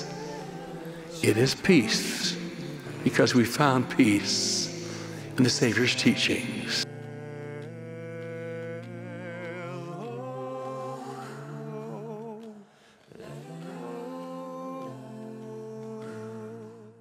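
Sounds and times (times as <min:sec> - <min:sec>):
choir holding long chords: 0:00.0 - 0:17.0.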